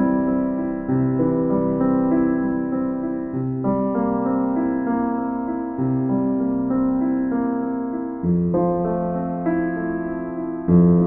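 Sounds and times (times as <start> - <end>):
instrumental music with held chords: 0.0 - 11.0.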